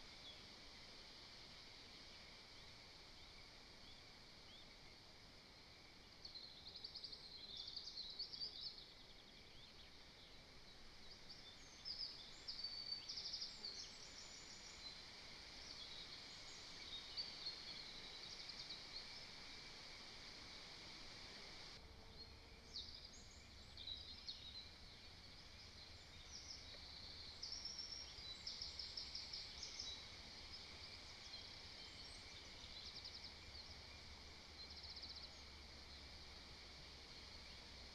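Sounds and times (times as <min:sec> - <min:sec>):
steady hiss: 0:00.0 - 0:37.9
faint songbirds trilling: 0:05.9 - 0:37.9.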